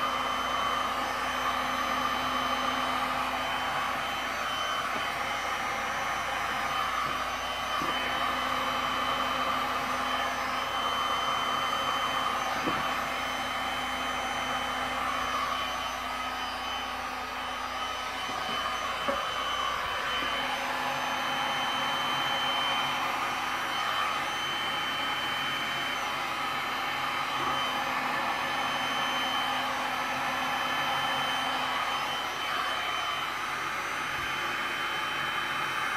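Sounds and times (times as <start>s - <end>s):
heat gun fan whining: 0.0s - 35.9s.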